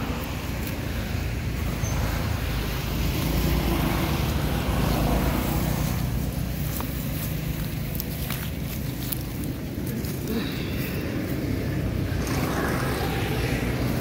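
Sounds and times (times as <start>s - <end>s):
low rumbling outdoor noise: 0.0s - 14.0s.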